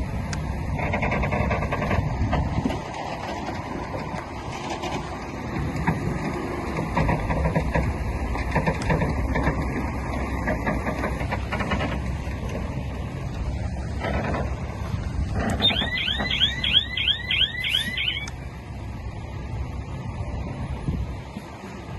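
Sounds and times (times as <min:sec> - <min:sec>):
diesel machinery engine rumble: 0:00.0 - 0:21.9
machinery clanks and knocks: 0:00.6 - 0:18.3.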